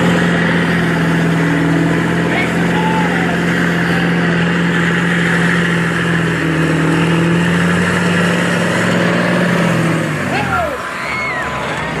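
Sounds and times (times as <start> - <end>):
truck engines revving high: 0.0 - 12.0.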